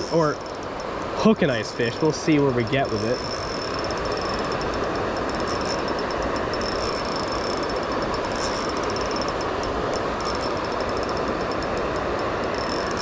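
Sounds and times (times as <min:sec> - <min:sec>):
faint high ticking: 0:00.0 - 0:13.0
flowing stream water: 0:00.0 - 0:13.0.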